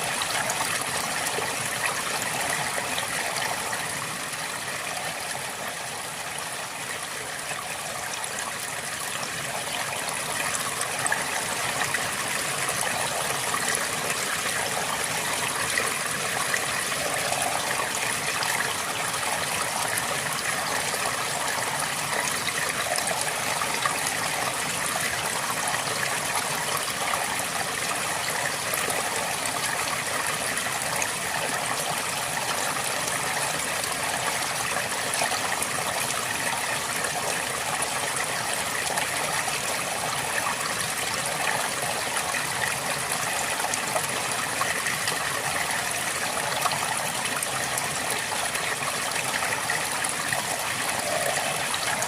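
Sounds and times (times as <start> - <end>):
river flowing: 0.0 - 52.0.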